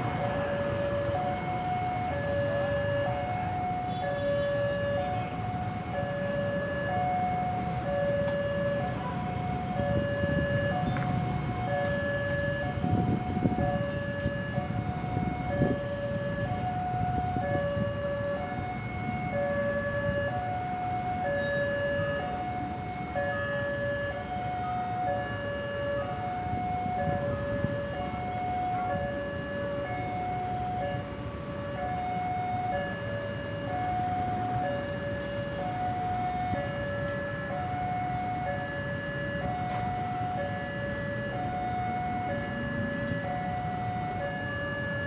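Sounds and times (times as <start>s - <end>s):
level crossing two-tone alarm: 0.0s - 45.0s
road traffic rumble: 0.0s - 45.0s.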